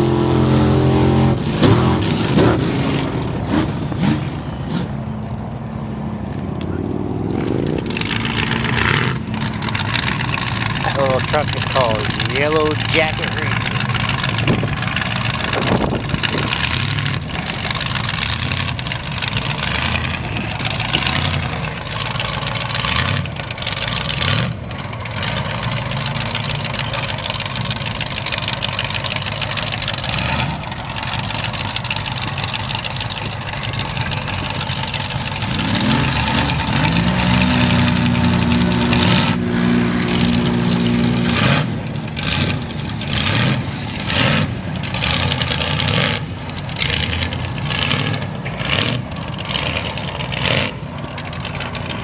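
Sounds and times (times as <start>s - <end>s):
truck engine revving: 0.0s - 52.0s
truck engines running: 0.0s - 52.0s.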